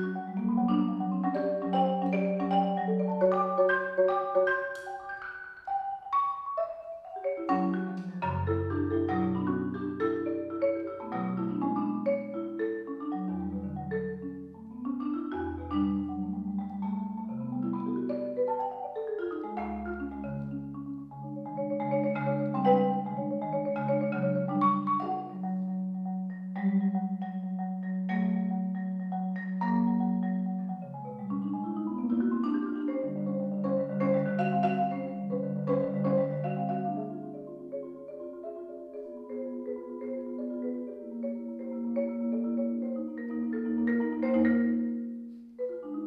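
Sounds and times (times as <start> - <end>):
marimba played with mallets: 0.0 - 46.0.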